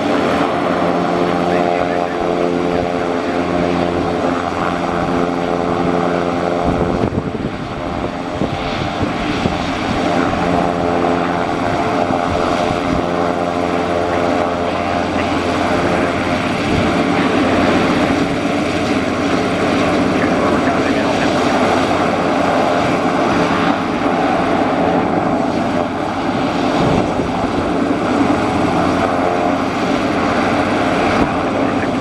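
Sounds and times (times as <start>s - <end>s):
turboprop engine droning: 0.0s - 32.0s.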